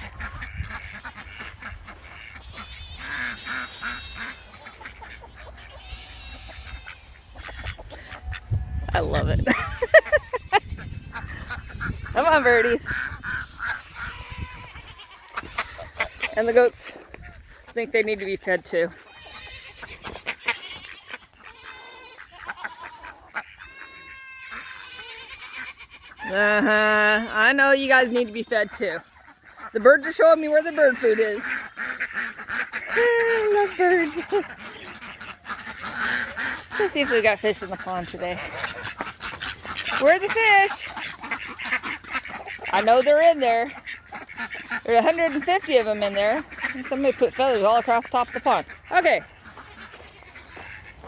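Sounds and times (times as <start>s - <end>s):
farm waterfowl calling: 0.0s - 51.0s
goats bleating: 2.2s - 18.3s, 18.9s - 50.9s.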